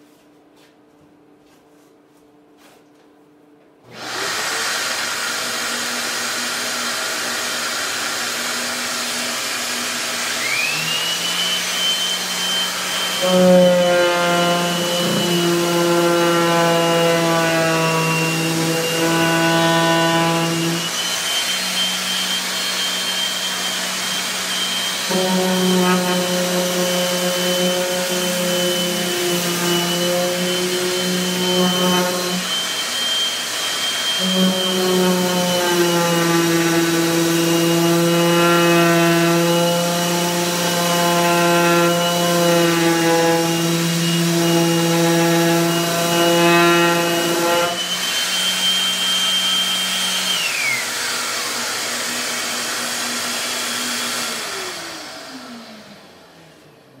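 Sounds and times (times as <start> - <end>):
orbital sander whining on wood: 3.9 - 56.4.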